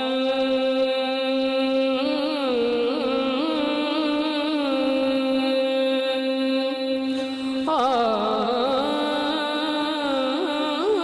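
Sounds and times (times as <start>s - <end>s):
man singing devotional song: 0.0s - 11.0s.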